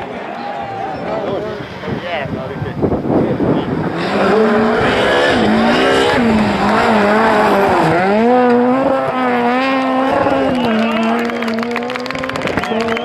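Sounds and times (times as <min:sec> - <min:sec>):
rally car engine revving: 0:00.7 - 0:13.0.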